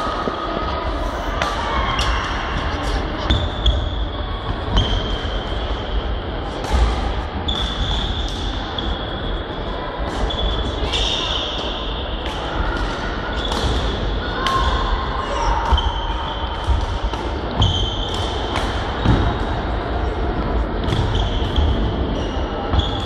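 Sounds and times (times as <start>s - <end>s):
murmur of voices: 0.0s - 23.0s.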